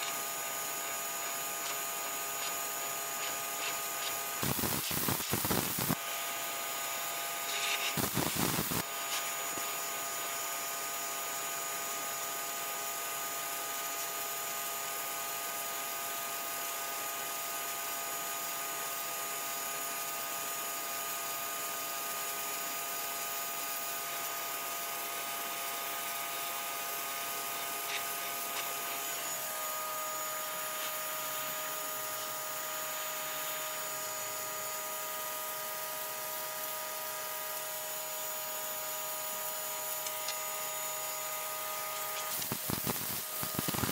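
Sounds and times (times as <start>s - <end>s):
water jet hissing on concrete: 0.0s - 11.7s, 18.4s - 43.9s.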